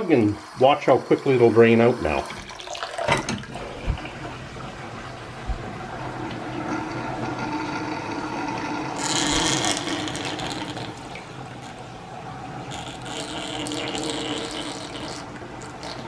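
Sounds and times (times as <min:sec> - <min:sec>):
water draining from sink: 0:00.0 - 0:16.0.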